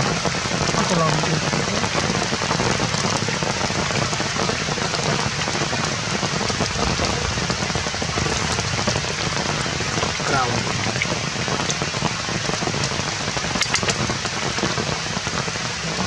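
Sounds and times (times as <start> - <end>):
raindrop taps: 0.0 - 16.0
steady rain falling: 0.0 - 16.0.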